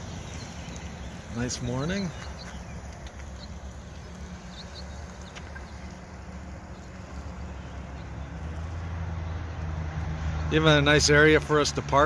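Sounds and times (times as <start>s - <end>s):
low mechanical hum: 0.0s - 10.1s.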